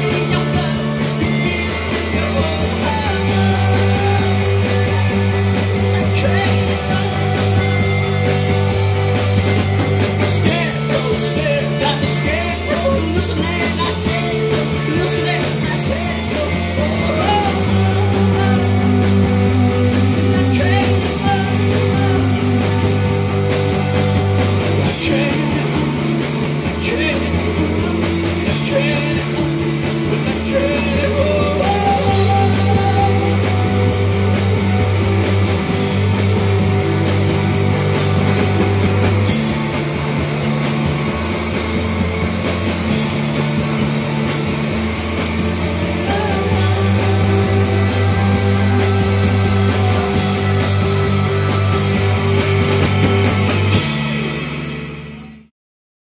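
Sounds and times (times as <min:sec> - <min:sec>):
live rock band playing: 0:00.0 - 0:55.5.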